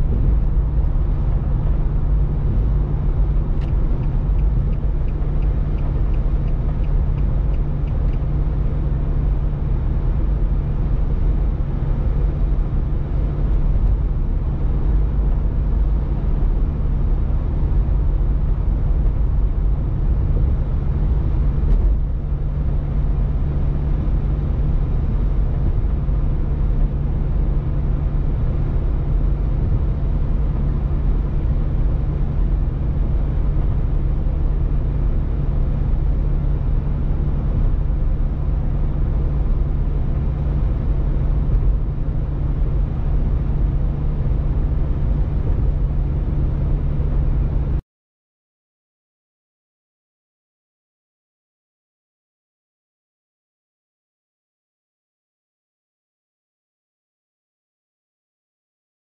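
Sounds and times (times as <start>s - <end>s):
car cabin road noise: 0.0s - 47.8s.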